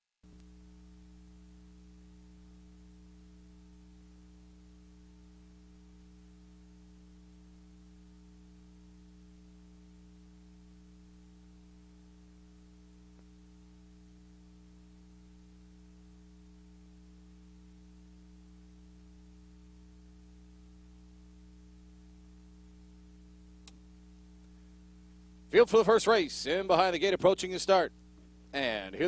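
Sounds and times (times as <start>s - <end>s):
faint electrical hum: 0.2s - 29.0s
low hiss: 0.2s - 29.0s.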